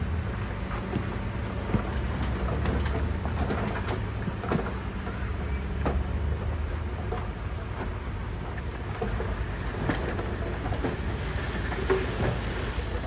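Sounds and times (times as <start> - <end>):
diesel engine rumble: 0.0 - 13.0.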